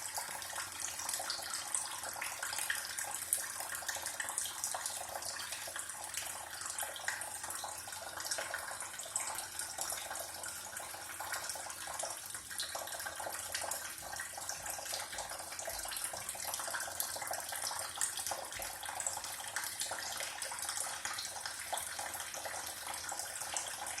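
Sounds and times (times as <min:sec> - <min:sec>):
water running from tap: 0:00.0 - 0:24.0.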